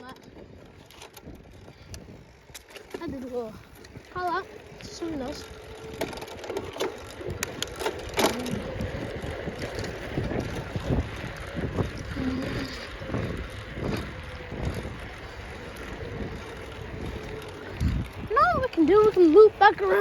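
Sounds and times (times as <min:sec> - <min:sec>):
bicycle rattling: 0:00.0 - 0:20.0
bicycle tyre rumble: 0:00.0 - 0:20.0
wind buffeting microphone: 0:00.0 - 0:20.0.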